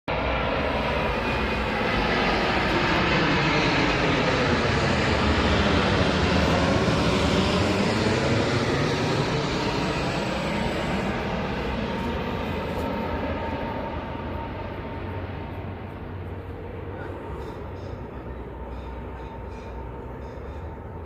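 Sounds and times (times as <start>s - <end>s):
jet engines roaring: 0.1s - 21.0s.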